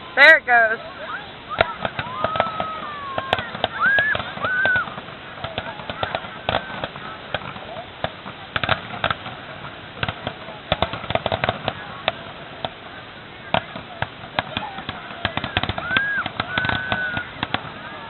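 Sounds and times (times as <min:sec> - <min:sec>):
faint crowd voices: 0:00.0 - 0:18.0
fireworks popping and cracking: 0:00.0 - 0:18.0.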